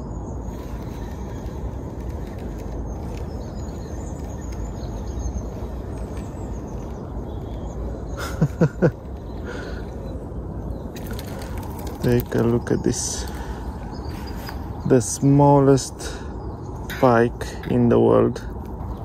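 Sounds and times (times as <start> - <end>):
faint bird chirps: 0.0 - 19.0
steady low rumble: 0.0 - 19.0.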